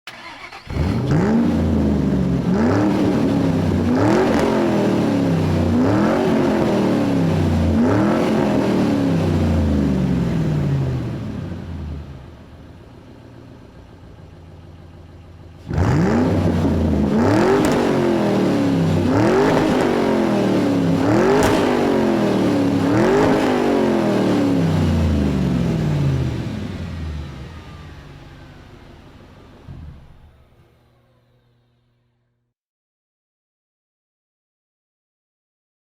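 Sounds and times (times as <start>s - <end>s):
sports car engine revving: 0.2s - 12.9s, 14.2s - 30.5s.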